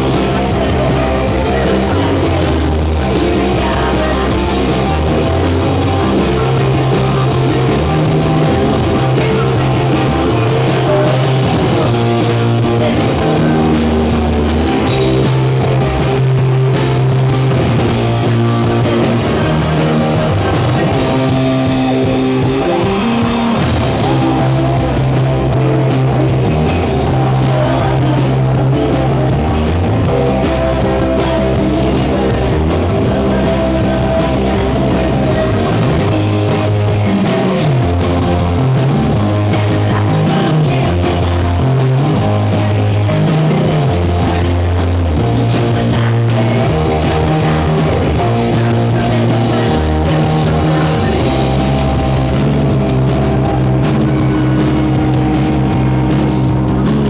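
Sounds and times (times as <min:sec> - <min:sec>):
bass line: 0:00.0 - 0:57.0
cymbals keeping a beat: 0:00.0 - 0:57.0
distorted electric guitars: 0:00.0 - 0:57.0
drum kit: 0:00.0 - 0:57.0.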